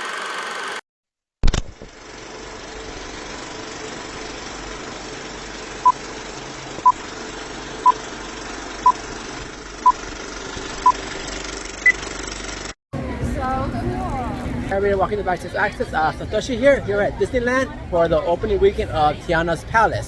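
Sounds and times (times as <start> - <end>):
engine-like rumble: 2.0 - 20.0.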